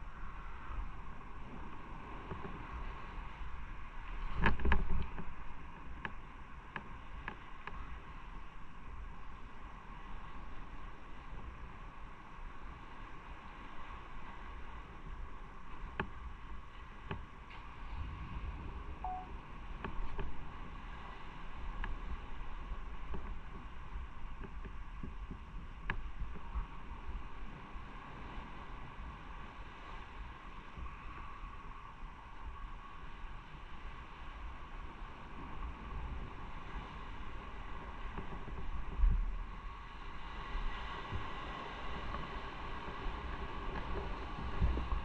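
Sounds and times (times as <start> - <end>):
wind noise: 0.0 - 45.0.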